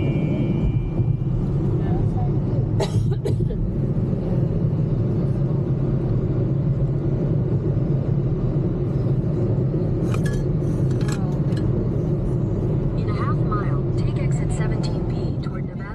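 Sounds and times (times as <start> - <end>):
car road and engine rumble: 0.0 - 15.9.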